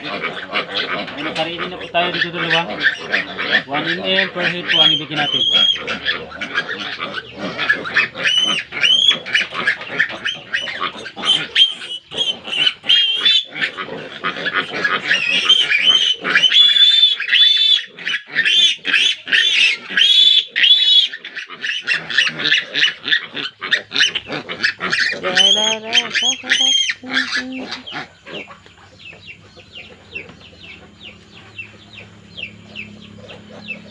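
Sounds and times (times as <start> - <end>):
piglets squealing: 0.0 - 33.9.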